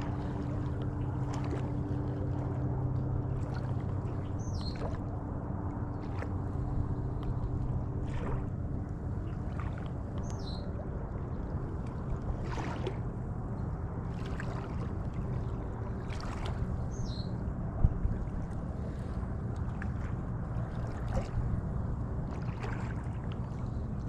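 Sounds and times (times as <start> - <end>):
low hum: 0.0 - 24.0
soft rushing water swells: 0.0 - 24.0.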